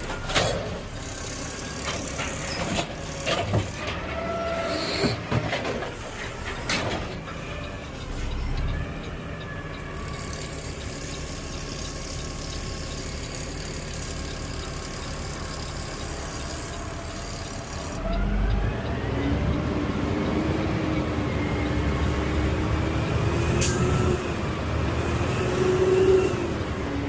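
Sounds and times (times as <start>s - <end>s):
garbage truck engine running: 0.0s - 27.0s.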